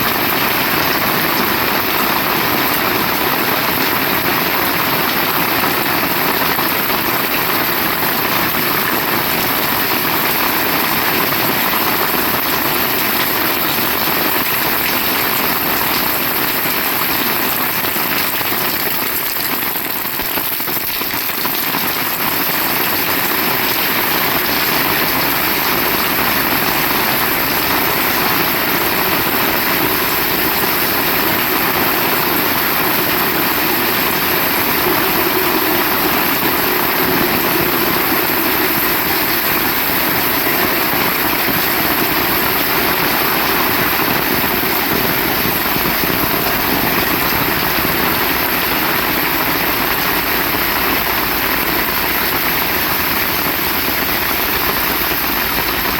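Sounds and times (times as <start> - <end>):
heavy rain: 0.0 - 55.9.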